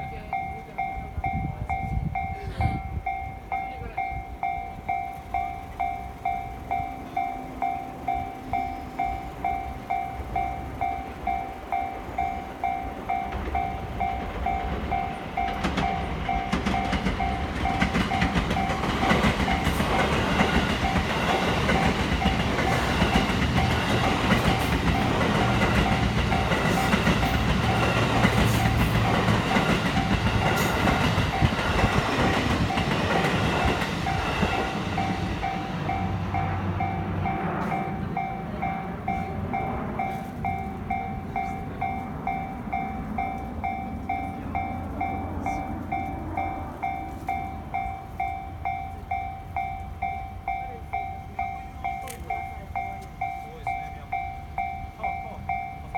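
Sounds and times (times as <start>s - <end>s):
level crossing bell dinging: 0.0s - 19.8s, 21.8s - 55.9s
train wheels clacking on rails: 0.0s - 55.9s.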